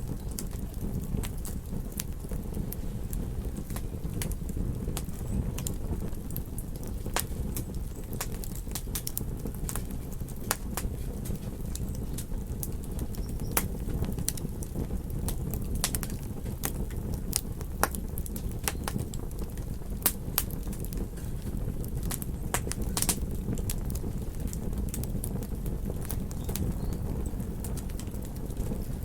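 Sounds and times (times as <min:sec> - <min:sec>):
burning wood popping: 0:00.0 - 0:29.0
campfire crackling: 0:00.0 - 0:29.0.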